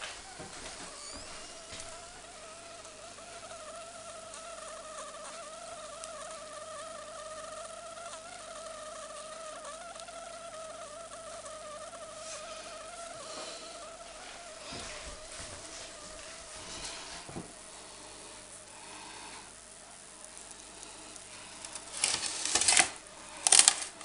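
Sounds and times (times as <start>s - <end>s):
roast juices sizzling: 0.0s - 24.0s.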